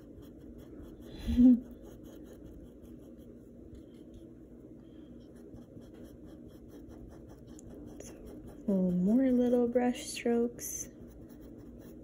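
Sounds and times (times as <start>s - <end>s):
paintbrush rubbing on canvas: 0.0s - 4.6s, 5.2s - 9.7s, 10.8s - 12.0s
low room hum: 0.0s - 12.0s.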